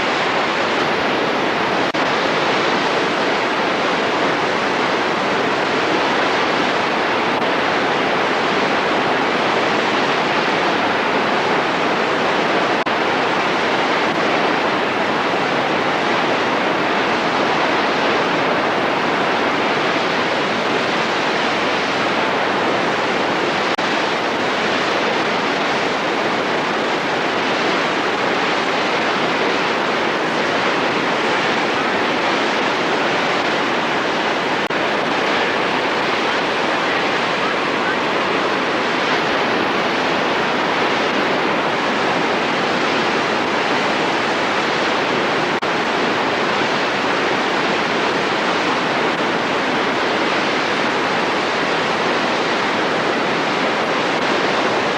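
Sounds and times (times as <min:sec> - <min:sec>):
fast-flowing water rushing: 0:00.0 - 0:54.9.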